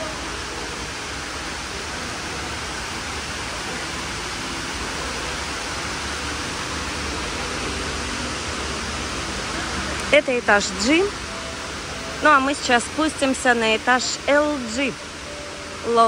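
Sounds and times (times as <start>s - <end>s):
indoor waterfall rushing: 0.0s - 16.0s.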